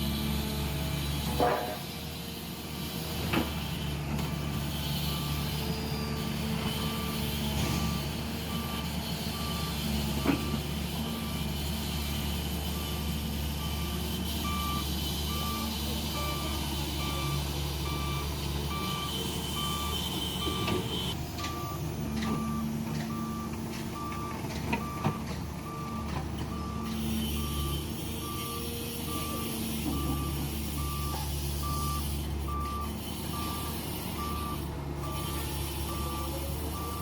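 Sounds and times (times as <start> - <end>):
heavy diesel engine running: 0.0 - 37.0
reversing alarm beeping: 4.5 - 37.0.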